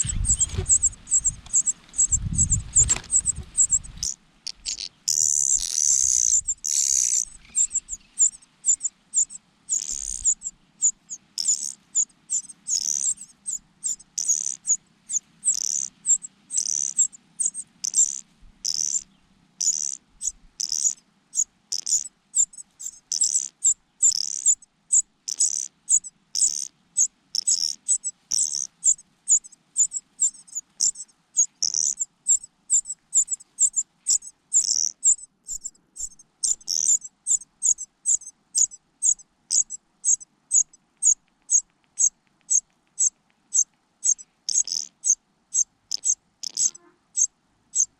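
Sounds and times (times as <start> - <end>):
nestling birds cheeping: 0.0 - 47.9.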